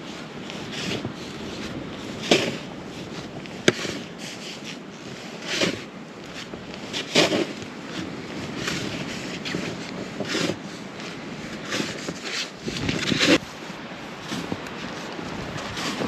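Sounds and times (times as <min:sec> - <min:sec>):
wind rushing and buffeting microphone: 0:00.0 - 0:16.0.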